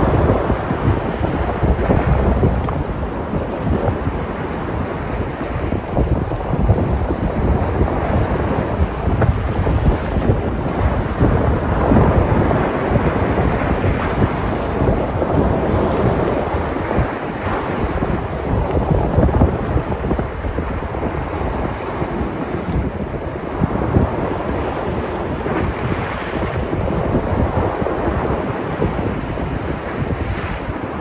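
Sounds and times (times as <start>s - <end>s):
sea surf breaking on shore: 0.0s - 31.0s
wind buffeting microphone: 0.0s - 31.0s.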